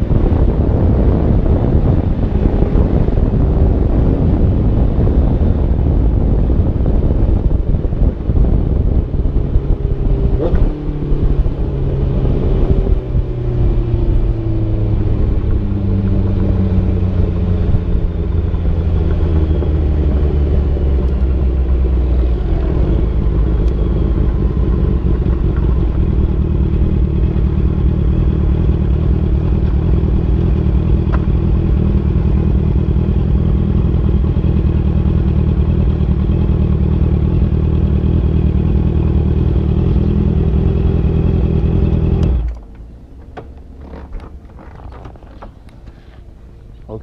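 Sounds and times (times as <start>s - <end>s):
motorcycle engine running: 0.0s - 46.8s.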